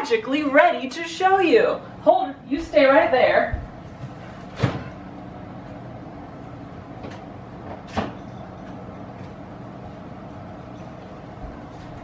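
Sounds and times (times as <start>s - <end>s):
faint refrigerator hum: 0.0s - 12.0s.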